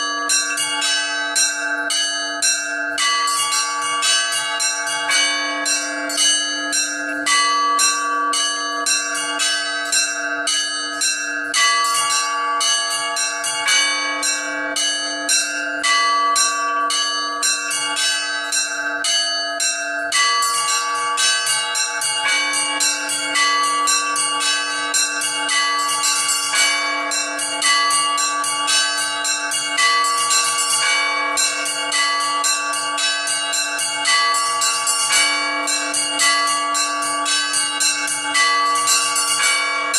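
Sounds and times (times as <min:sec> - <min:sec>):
large bell humming: 0:00.0 - 0:39.9
small bells ringing: 0:00.0 - 0:39.9.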